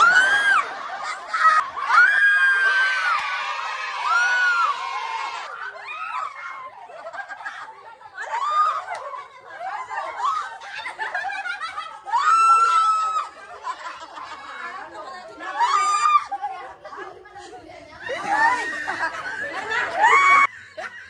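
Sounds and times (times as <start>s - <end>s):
people laughing and squealing: 0.0s - 21.0s.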